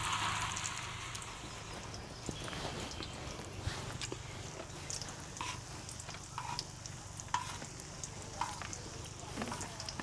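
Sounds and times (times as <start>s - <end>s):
patties sizzling in oil: 0.0s - 10.0s
sharp oil crackles: 0.0s - 10.0s.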